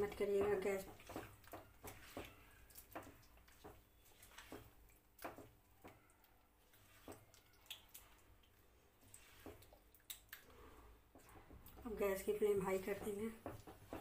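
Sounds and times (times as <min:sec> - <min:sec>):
spoon stirring food in a pan: 0:00.0 - 0:14.0.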